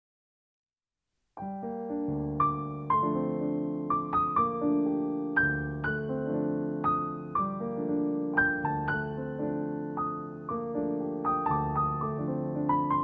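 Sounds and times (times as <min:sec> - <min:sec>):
gentle piano melody: 0:01.4 - 0:13.0.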